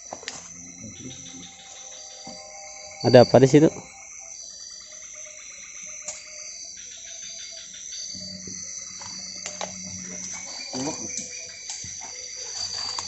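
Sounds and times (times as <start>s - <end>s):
insects trilling: 0.0s - 13.0s
low steady hum: 0.0s - 13.0s
pulsing insect trill: 0.0s - 13.0s.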